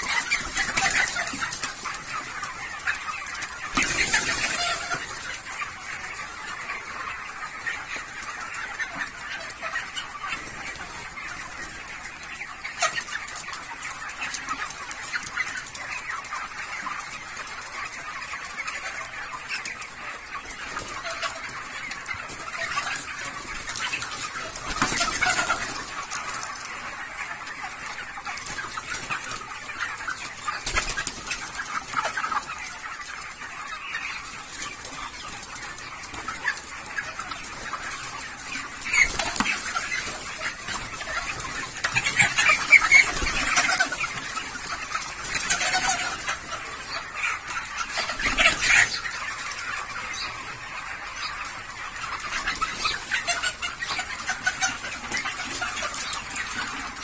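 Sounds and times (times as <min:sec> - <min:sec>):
chickens clucking and chirping: 0:00.0 - 0:57.0.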